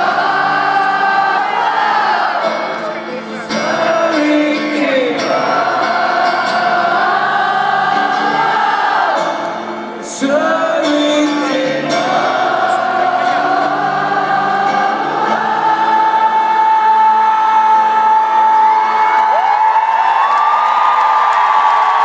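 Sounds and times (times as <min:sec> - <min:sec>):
acoustic guitar: 0:00.0 - 0:19.3
crowd singing along: 0:00.0 - 0:19.3.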